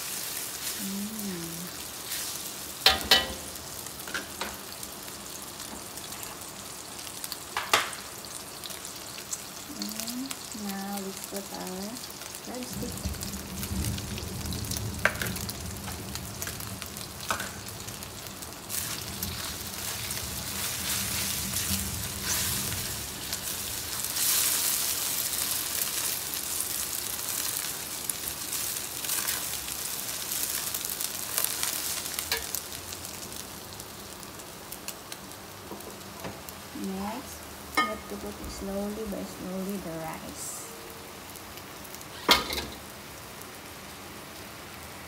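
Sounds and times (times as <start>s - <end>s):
food sizzling in oil in a wok: 0.0s - 45.0s.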